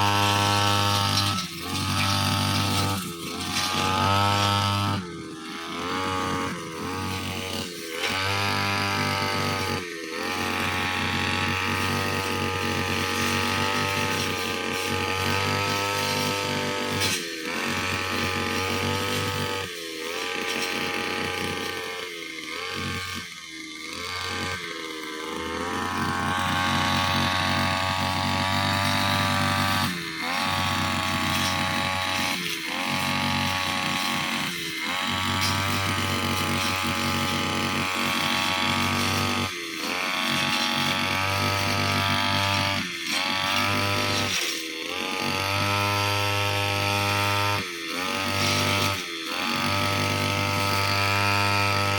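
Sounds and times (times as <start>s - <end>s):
brushcutter engine revving: 0.0s - 51.9s.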